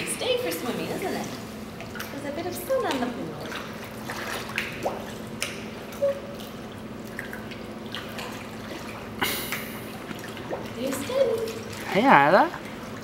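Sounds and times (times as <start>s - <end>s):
pool drain gurgling: 0.0s - 13.0s
pool water dripping and lapping: 0.0s - 13.0s.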